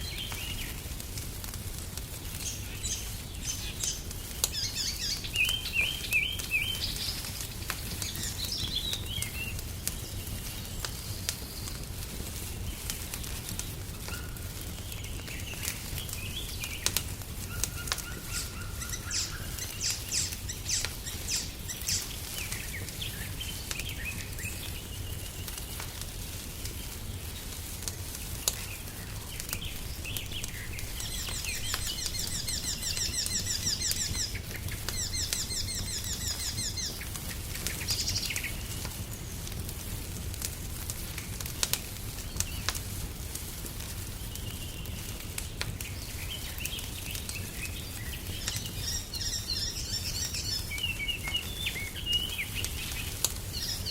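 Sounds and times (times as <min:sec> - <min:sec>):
songbirds singing: 0:00.0 - 0:39.6, 0:41.4 - 0:42.9, 0:44.0 - 0:53.9
wood fire crackling and popping: 0:00.0 - 0:53.9.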